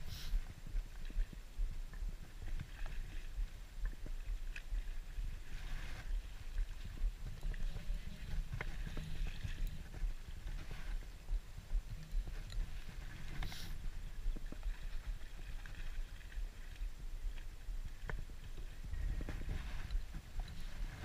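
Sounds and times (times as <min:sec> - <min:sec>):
constant low rumble: 0:00.0 - 0:21.0.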